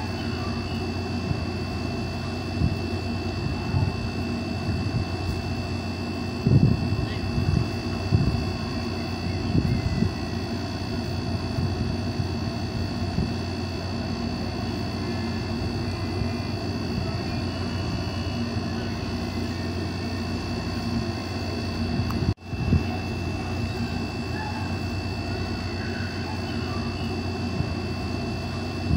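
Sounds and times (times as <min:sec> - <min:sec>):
high whine: 0:00.0 - 0:28.9
low engine drone: 0:00.0 - 0:28.9.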